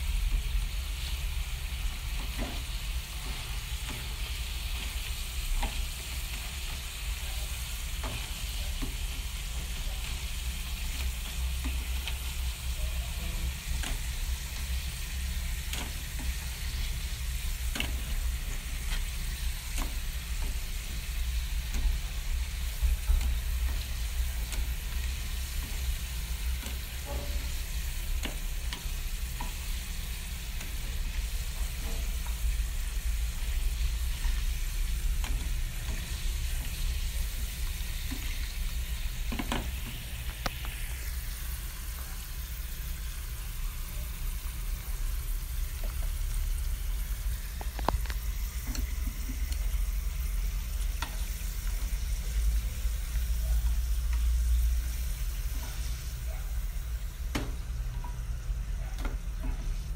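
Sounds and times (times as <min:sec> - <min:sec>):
potato slices sizzling in oil: 0:00.0 - 0:59.9.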